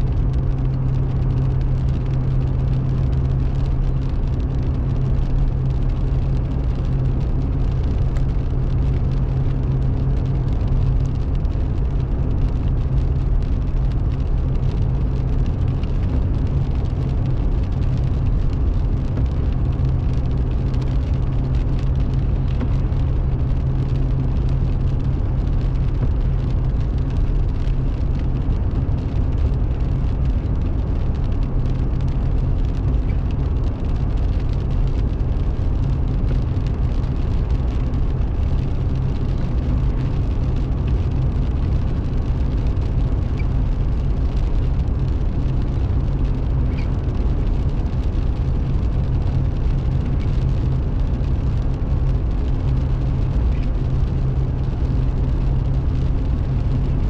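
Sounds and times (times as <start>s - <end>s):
engine and tyre drone in car: 0.0s - 57.0s.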